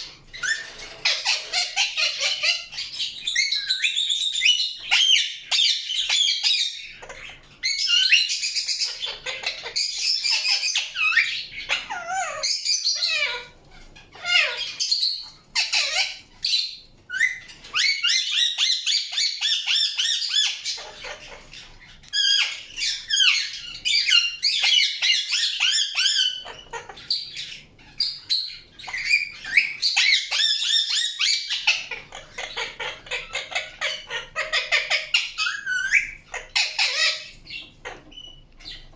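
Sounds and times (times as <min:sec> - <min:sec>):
parrot chirping and squawking: 0:00.0 - 0:38.9.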